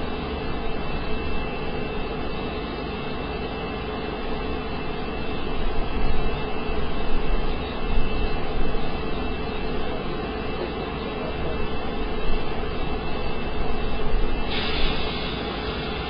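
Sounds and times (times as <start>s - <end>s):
turboprop engine running: 0.0s - 16.0s.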